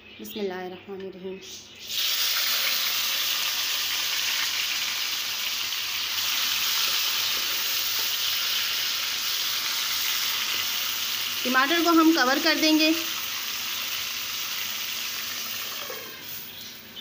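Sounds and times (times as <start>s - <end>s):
tomatoes sizzling in hot oil: 1.8s - 16.8s.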